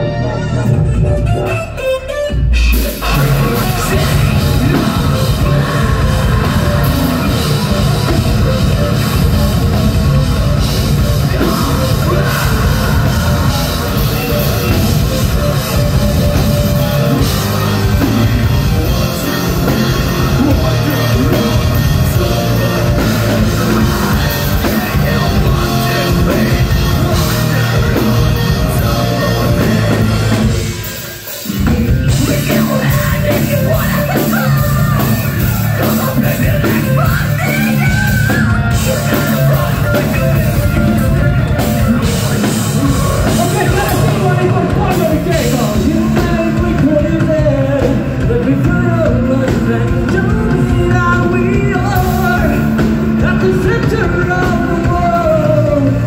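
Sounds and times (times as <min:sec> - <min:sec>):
live heavy metal band: 0:00.0 - 0:56.0.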